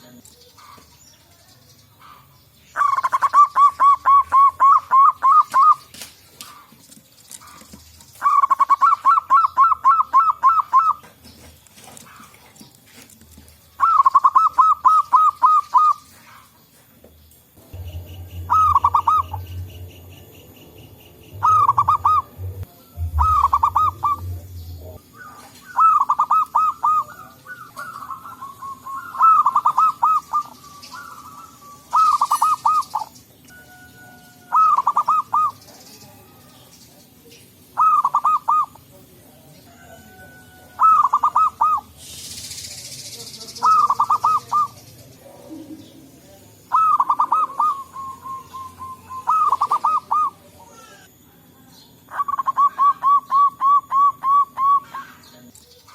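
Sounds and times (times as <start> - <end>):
doves cooing: 0.0 - 42.9, 43.5 - 55.9.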